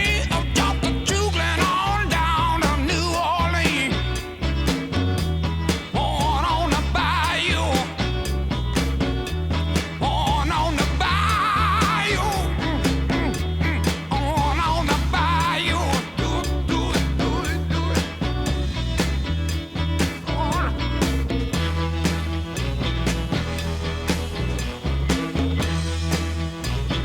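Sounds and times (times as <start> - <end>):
upbeat rock and roll song: 0.0 - 27.0.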